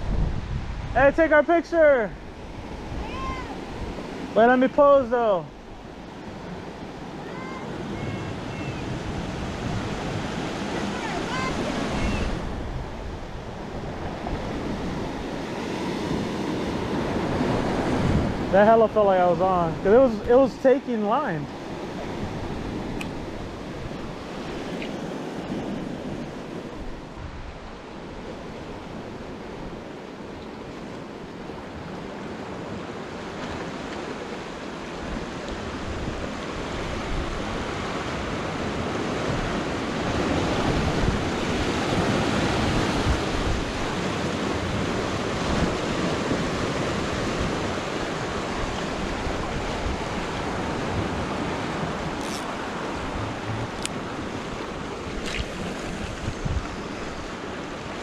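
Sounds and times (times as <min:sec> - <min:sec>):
ocean surf breaking on rocks: 0:00.0 - 0:58.0.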